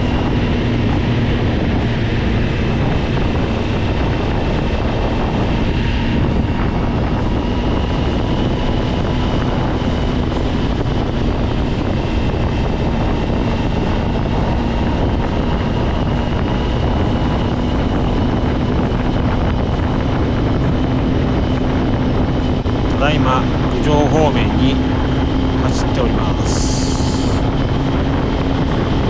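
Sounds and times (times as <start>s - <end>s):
road noise: 0.0s - 29.0s
wind noise: 0.0s - 29.0s.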